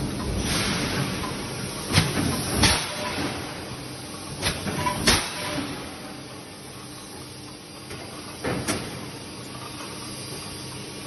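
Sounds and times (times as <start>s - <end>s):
forging press humming and hissing: 0.0s - 11.0s.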